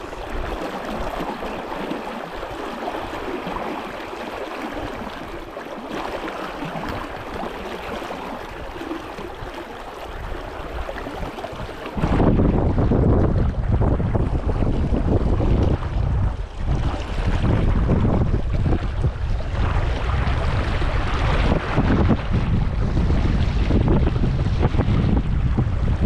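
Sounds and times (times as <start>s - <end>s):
brook water rushing: 0.0s - 26.0s.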